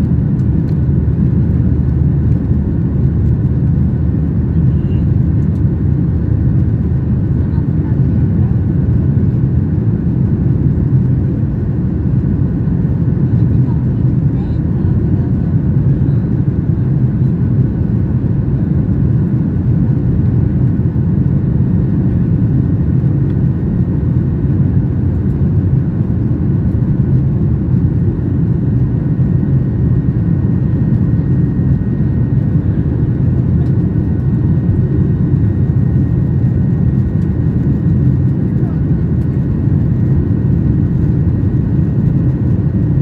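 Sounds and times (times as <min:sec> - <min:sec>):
jet engine cabin rumble: 0:00.0 - 0:43.0.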